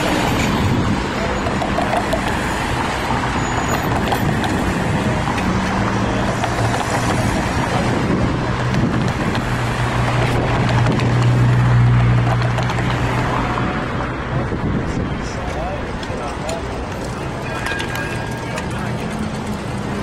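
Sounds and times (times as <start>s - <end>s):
cars driving past: 0.0s - 20.0s
tram moving: 0.0s - 20.0s.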